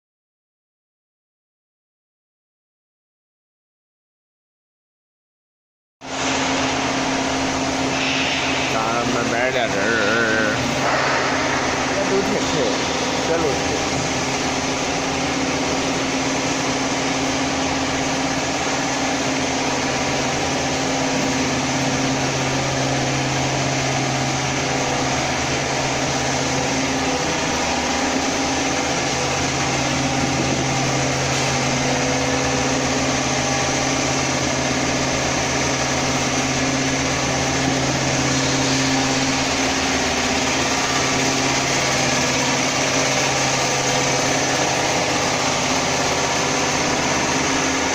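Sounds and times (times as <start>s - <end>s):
machine humming: 6.0s - 47.9s.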